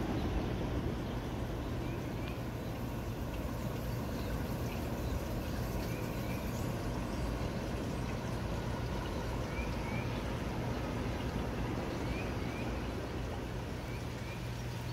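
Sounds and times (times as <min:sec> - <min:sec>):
outdoor rumble and hiss: 0:00.0 - 0:14.9.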